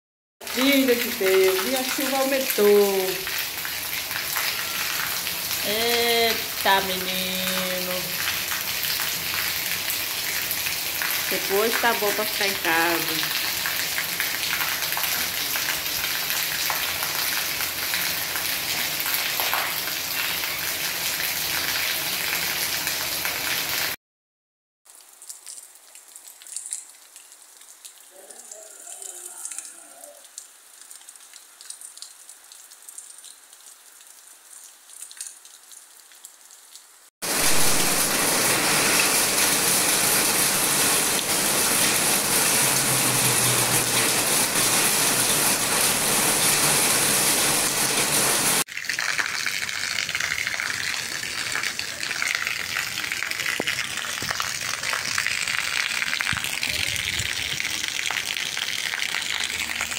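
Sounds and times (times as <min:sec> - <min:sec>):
rain falling: 0:00.4 - 0:24.0, 0:24.9 - 0:59.9.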